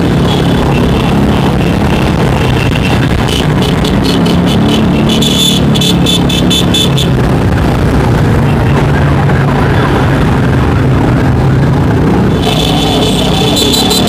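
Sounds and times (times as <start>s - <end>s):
motorbike engines running: 0.0s - 14.0s.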